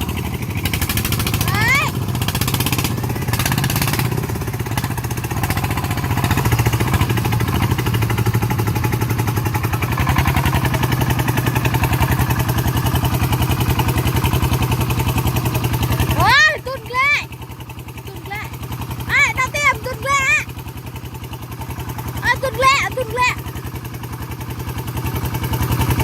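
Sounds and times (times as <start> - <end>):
diesel engine chugging: 0.0 - 26.0.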